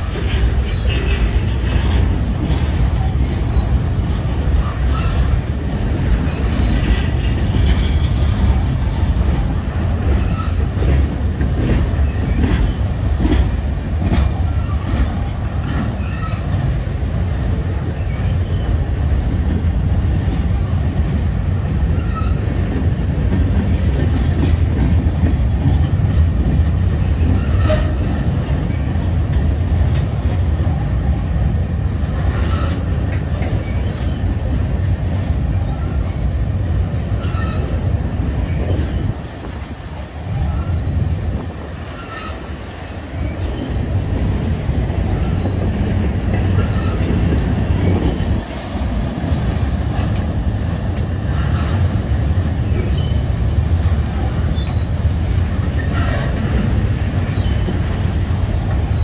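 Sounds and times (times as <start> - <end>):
train clicks: 0.0 - 59.0
train wheels rumbling on rail: 0.0 - 59.0.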